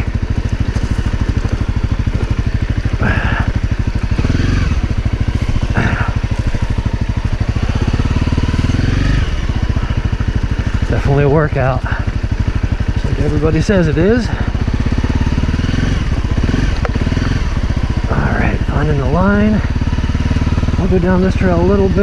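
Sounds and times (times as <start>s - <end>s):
dirt bike engine idling: 0.0s - 22.0s.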